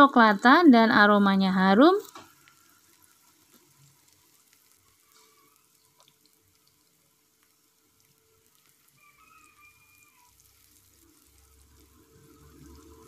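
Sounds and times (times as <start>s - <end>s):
faint sizzling in a wok: 0.0s - 13.0s.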